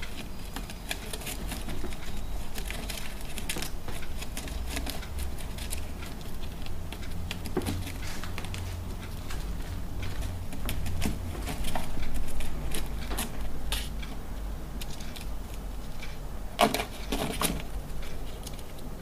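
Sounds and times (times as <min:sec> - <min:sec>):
squirrel gnawing cardboard: 0:00.0 - 0:14.2, 0:16.6 - 0:19.0
steady low hum: 0:00.0 - 0:19.0.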